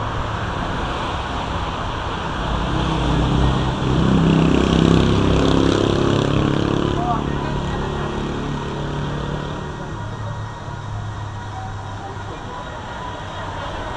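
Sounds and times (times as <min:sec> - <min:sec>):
car engine and tyres passing close: 0:00.0 - 0:13.9
cars driving past: 0:00.0 - 0:13.9.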